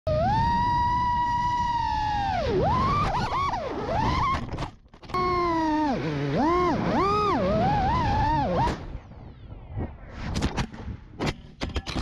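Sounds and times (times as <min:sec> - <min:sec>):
drone motors whining: 0:00.1 - 0:09.8.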